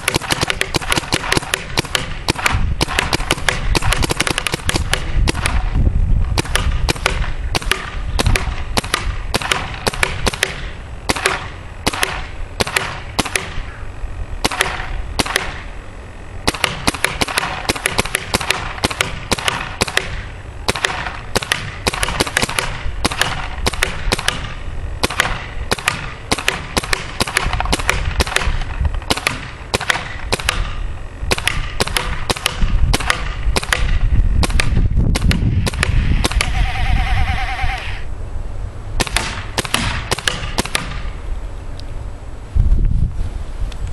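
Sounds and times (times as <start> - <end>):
paintball marker firing pops: 0.0 - 13.6, 14.4 - 15.7, 16.5 - 36.6, 39.0 - 41.1.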